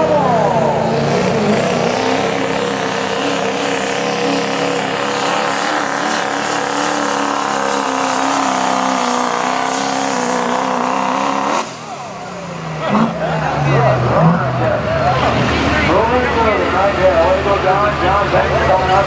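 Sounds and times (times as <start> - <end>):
diesel engine at full throttle: 0.0 - 19.0.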